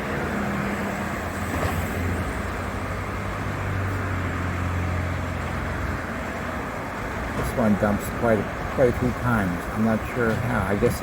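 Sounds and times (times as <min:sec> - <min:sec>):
truck engine and hydraulics: 0:00.0 - 0:11.0.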